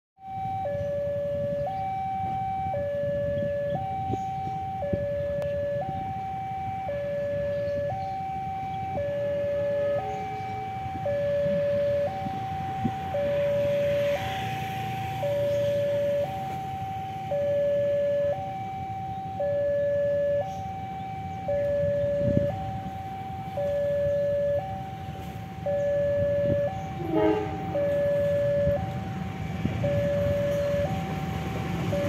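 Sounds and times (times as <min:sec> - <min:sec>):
two-tone level crossing alarm: 0:00.2 - 0:32.0.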